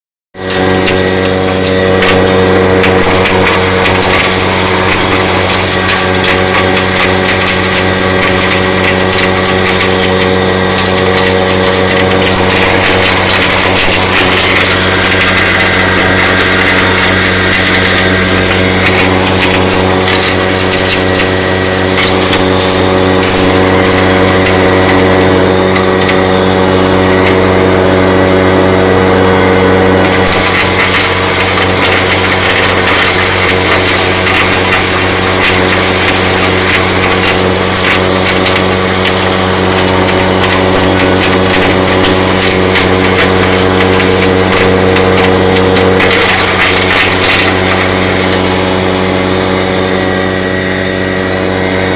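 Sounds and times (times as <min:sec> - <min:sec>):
corn crushing and rattling: 0:00.4 - 0:51.9
corn grinder motor hum: 0:00.4 - 0:51.9.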